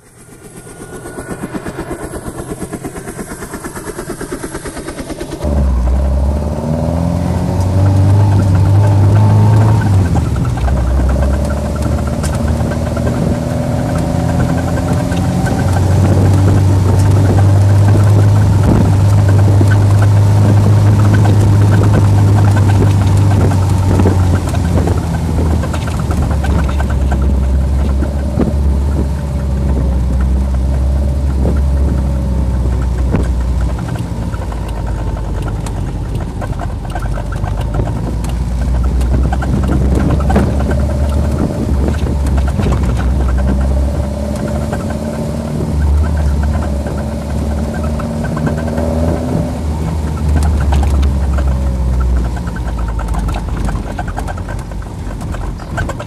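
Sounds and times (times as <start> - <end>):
gear change: 0.0 - 56.0
sports car engine revving: 0.0 - 56.0.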